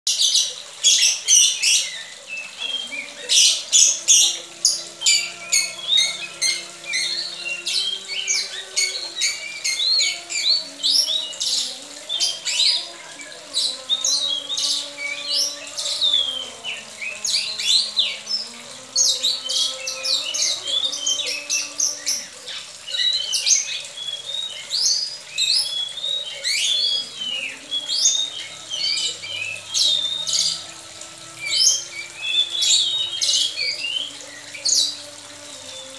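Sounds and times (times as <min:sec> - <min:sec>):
bird singing and calling: 0:00.1 - 0:35.9.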